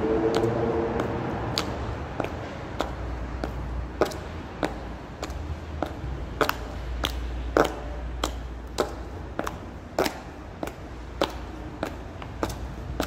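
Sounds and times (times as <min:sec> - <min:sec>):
heels clicking on paving: 0:00.3 - 0:13.0.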